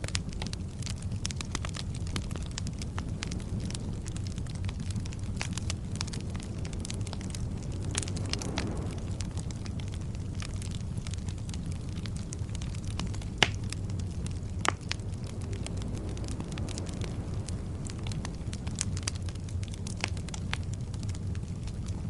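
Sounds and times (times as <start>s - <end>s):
logs crackling: 0.0s - 22.0s
low rumble of flames: 0.0s - 22.0s
wood fire pops: 0.0s - 22.0s.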